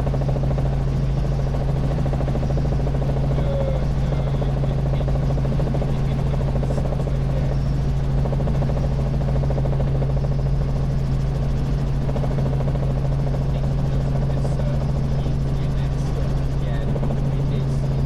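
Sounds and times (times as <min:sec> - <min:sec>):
helicopter in flight: 0:00.0 - 0:18.0.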